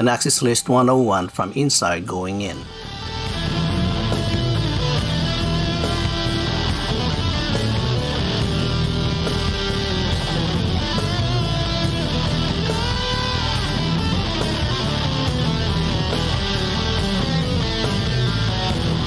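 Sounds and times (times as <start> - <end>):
instrumental rock music: 2.6 - 19.0.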